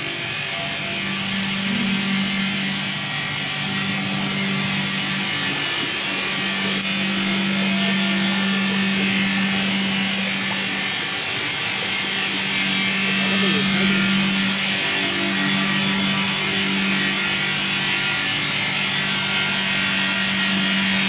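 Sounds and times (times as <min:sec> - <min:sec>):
high motor whine: 0:00.0 - 0:21.0
mixer motors humming: 0:00.0 - 0:21.0.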